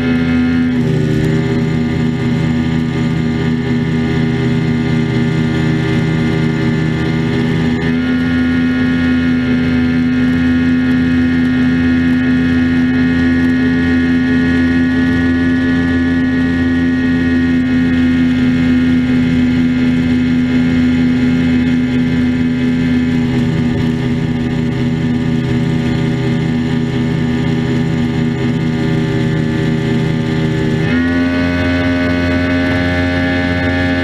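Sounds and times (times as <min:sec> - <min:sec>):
outboard motor running at high speed: 0:00.0 - 0:34.0.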